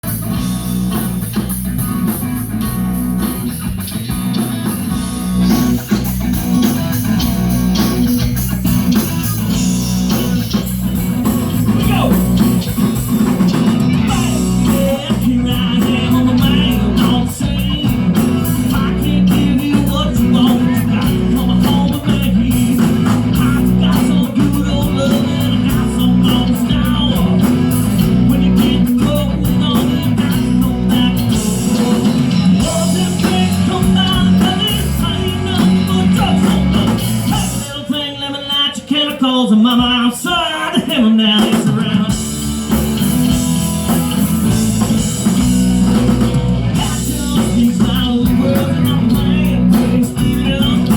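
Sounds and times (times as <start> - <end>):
quick high beat: 0.0 - 37.8, 41.4 - 50.9
rock band playing live: 0.0 - 50.9.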